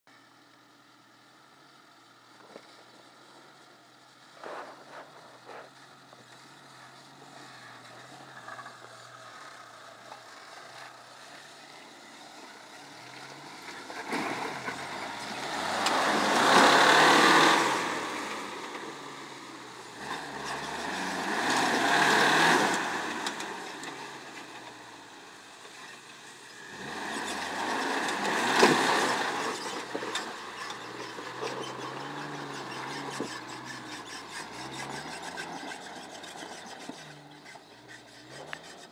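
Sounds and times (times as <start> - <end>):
engine revving: 4.3 - 38.9.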